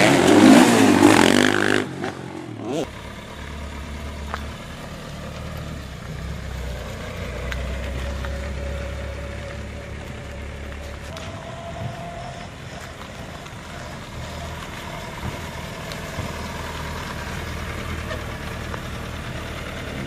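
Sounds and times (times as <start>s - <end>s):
motorcycle engine at low revs: 0.0s - 11.4s, 12.5s - 20.0s.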